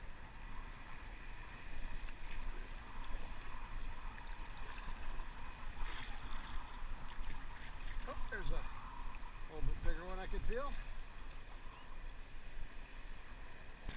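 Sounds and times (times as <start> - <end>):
sea water sloshing and splashing: 0.6 - 13.9.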